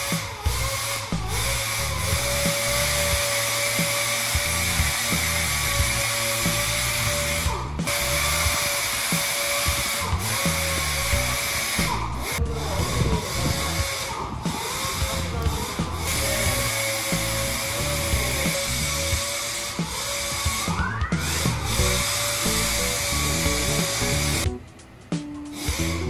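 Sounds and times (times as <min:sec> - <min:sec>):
background music: 0:00.0 - 0:26.0
high-pitched machine whine: 0:00.0 - 0:26.0.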